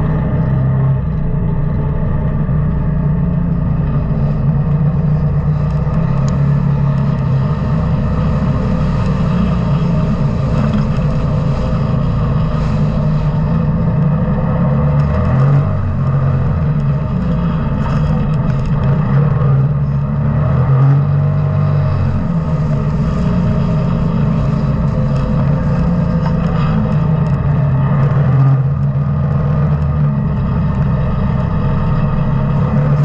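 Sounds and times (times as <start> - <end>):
off-road vehicle engine running: 0.0 - 33.0.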